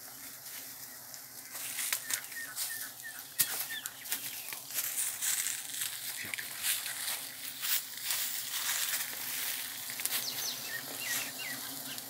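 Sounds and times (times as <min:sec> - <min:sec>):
dry rustling and crackling: 0:00.0 - 0:12.0.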